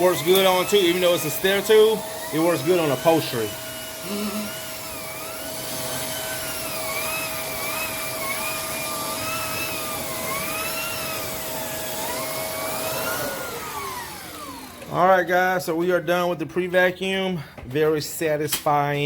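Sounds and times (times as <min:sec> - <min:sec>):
upright vacuum cleaner whine: 0:00.0 - 0:15.3.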